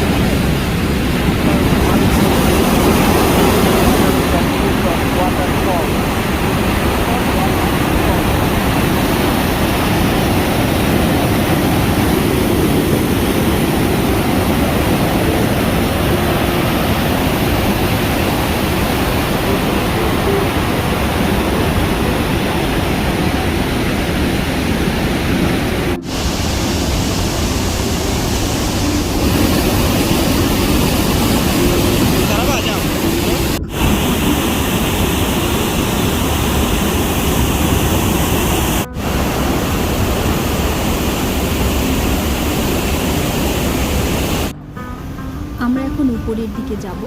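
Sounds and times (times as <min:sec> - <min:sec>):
waterfall rushing: 0:00.0 - 0:45.1.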